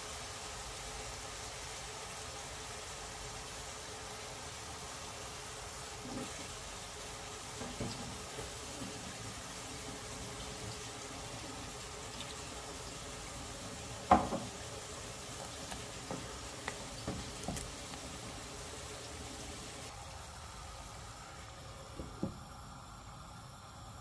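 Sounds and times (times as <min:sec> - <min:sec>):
food sizzling in a pan: 0:00.0 - 0:20.2.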